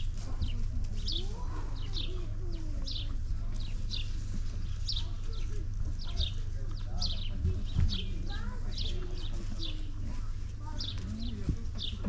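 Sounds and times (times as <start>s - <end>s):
steady low rumble: 0.0s - 12.0s
small bird chirping: 1.0s - 12.0s.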